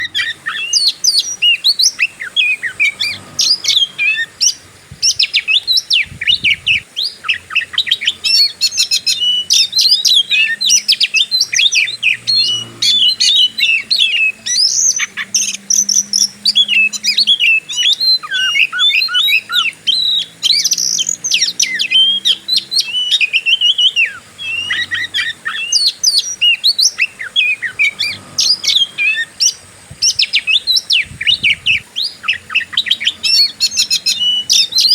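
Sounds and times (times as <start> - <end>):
bird singing chirps and trills: 0.0 - 34.9.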